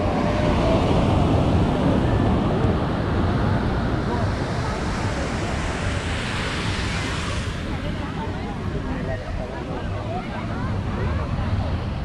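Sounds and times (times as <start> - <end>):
ocean surf washing onto beach: 0.0 - 10.9
wind on microphone: 0.0 - 12.0.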